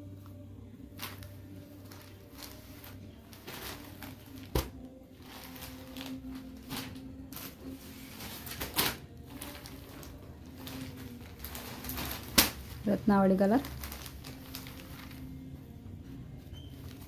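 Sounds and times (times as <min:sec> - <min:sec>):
low steady hum: 0:00.0 - 0:17.0
fabric rustling: 0:00.2 - 0:15.6.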